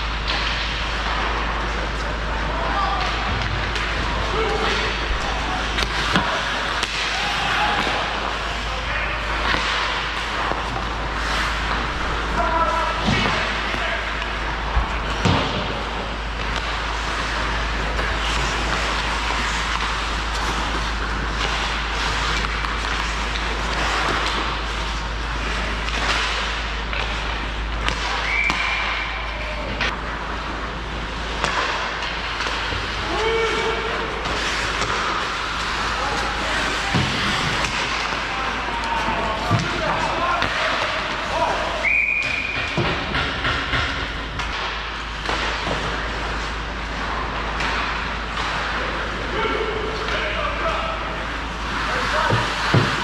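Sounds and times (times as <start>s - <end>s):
din of ice rink: 0.0s - 53.0s
hockey sticks and puck cracking: 0.0s - 53.0s.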